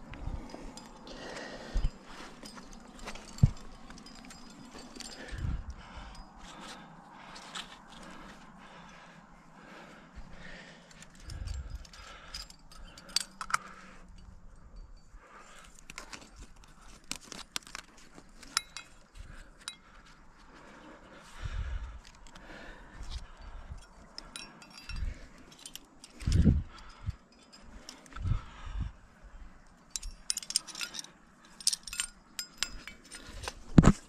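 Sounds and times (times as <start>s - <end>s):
climbing gear clinking: 0.0s - 34.0s.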